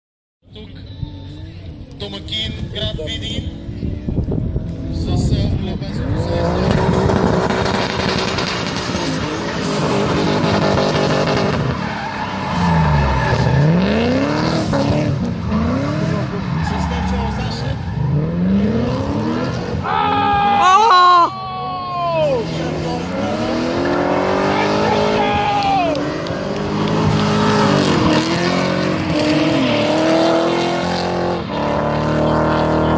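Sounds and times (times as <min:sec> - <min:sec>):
car engines revving: 0:00.5 - 0:32.9
tyres skidding: 0:00.6 - 0:20.8, 0:21.4 - 0:32.9.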